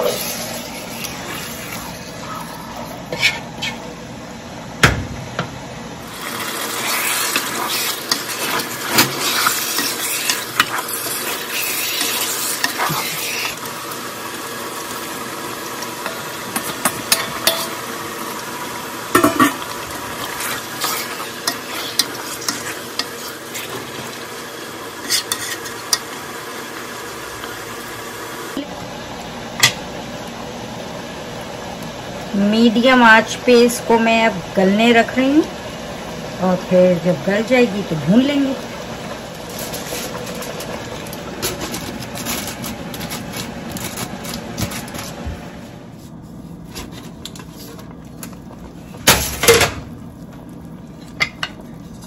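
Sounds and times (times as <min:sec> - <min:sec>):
chicken sizzling in a pot: 0:00.0 - 0:05.2, 0:06.0 - 0:52.0.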